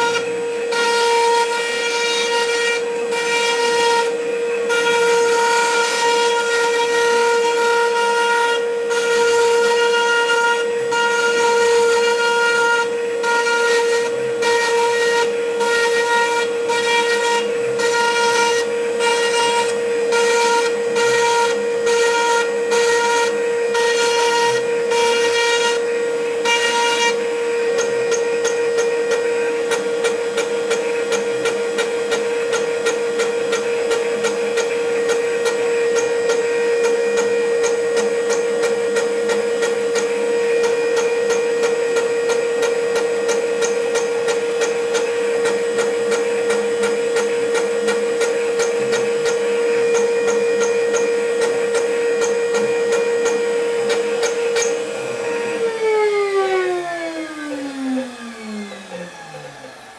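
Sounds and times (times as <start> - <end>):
mill spindle whine: 0.0 - 59.9.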